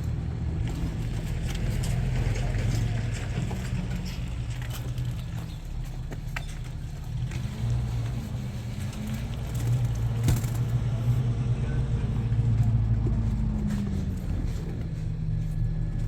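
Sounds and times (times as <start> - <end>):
engine running at low pitch: 0.0 - 16.0.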